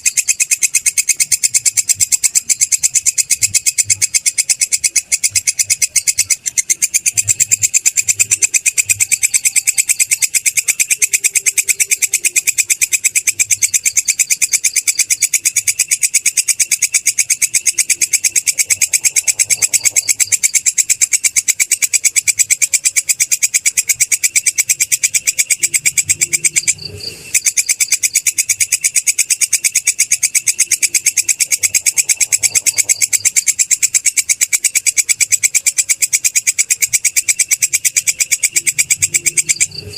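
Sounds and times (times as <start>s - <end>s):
grasshopper stridulating: 0.0s - 39.9s.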